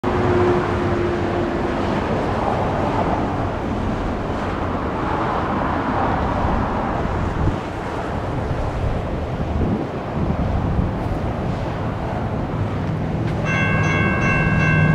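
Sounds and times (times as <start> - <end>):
cars passing: 0.0 - 14.9
wind rumbling on microphone: 0.0 - 14.9.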